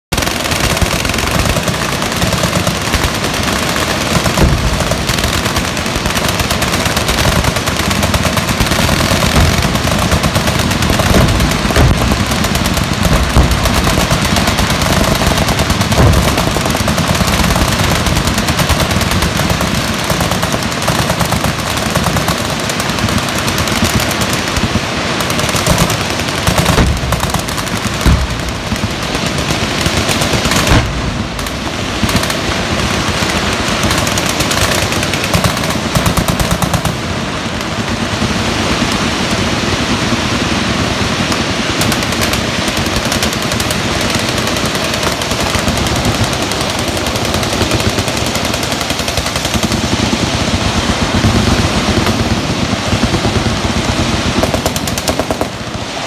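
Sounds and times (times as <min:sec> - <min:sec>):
machine guns firing: 0:00.0 - 0:55.9.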